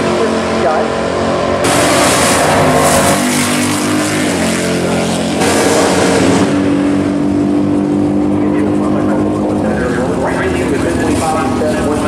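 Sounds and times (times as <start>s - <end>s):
drag car engines revving: 0.0s - 12.0s.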